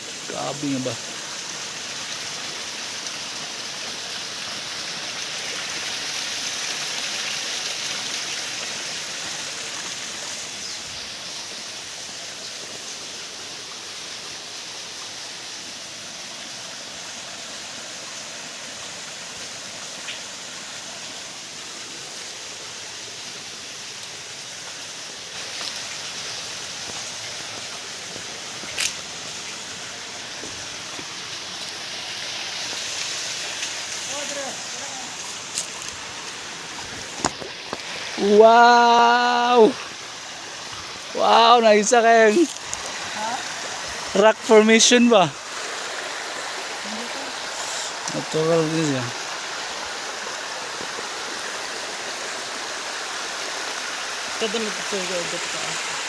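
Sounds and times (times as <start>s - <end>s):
flowing water rushing: 0.0s - 56.0s.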